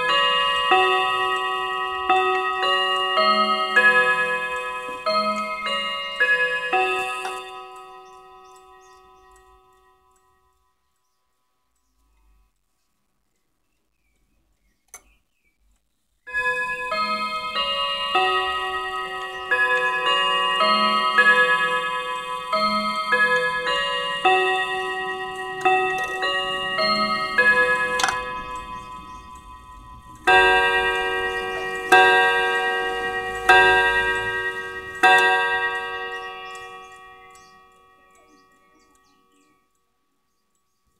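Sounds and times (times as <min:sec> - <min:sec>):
clock click: 0:00.0 - 0:10.3, 0:16.6 - 0:39.1
clock striking the hour: 0:00.0 - 0:10.7, 0:16.3 - 0:39.6
clock chime tune: 0:00.0 - 0:10.8, 0:16.3 - 0:39.8.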